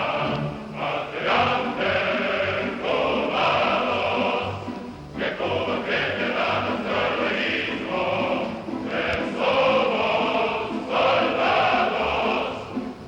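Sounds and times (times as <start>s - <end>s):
choir singing with accompaniment: 0.0s - 13.0s.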